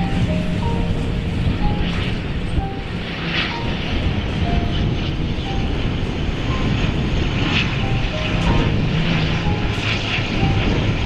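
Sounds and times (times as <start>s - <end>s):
turboprop engines droning: 0.0s - 11.0s.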